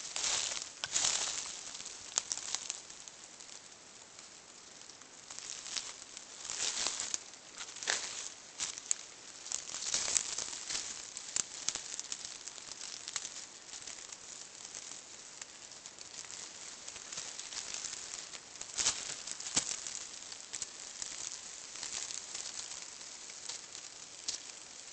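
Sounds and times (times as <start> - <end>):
dry leaves crunching: 0.0 - 3.6, 4.8 - 24.7.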